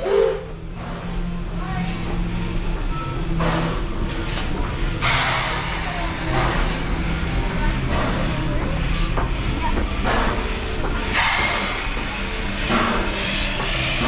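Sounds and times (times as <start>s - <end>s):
steam hissing: 0.0s - 14.0s
steam locomotive rumbling: 0.0s - 14.0s.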